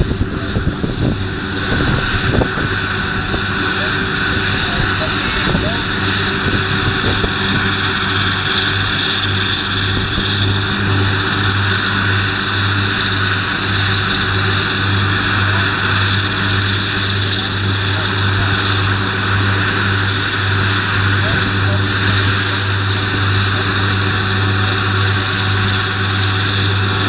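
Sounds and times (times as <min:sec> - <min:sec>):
mower conditioners whirring: 0:00.0 - 0:27.0
tractor diesel engine running: 0:00.0 - 0:27.0.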